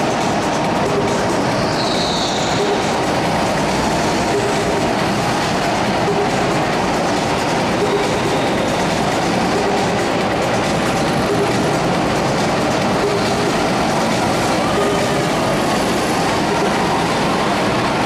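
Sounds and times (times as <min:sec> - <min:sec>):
go-kart engines droning: 0:00.0 - 0:18.0.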